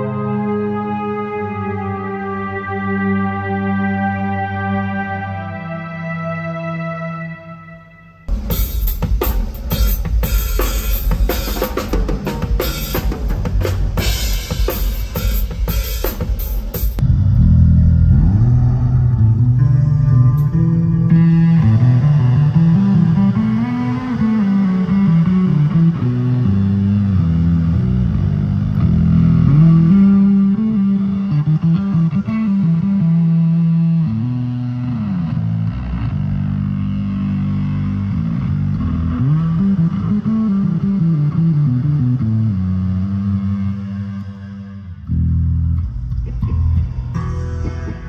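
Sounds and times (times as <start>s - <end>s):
electric bass guitar: 0.0s - 48.0s.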